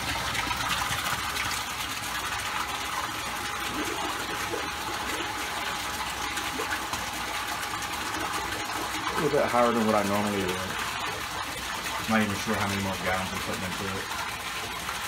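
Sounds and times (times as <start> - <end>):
water pouring and splashing: 0.0 - 15.0.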